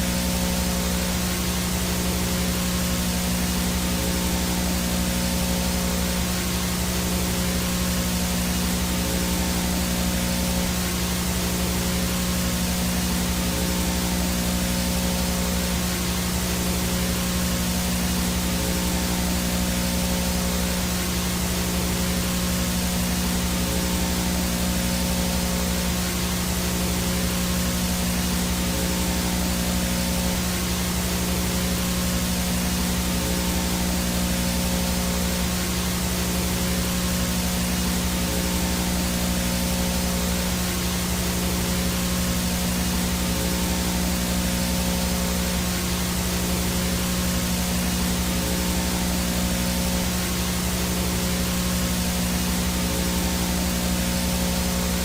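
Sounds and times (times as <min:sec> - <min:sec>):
faint high whine: 0:00.0 - 0:55.0
static hiss: 0:00.0 - 0:55.0.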